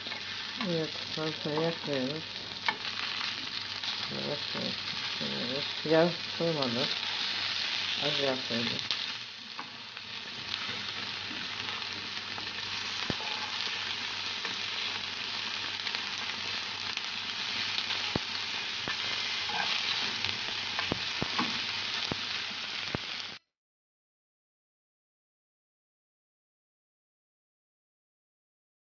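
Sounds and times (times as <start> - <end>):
patties sizzling in a pan: 0.0 - 23.4.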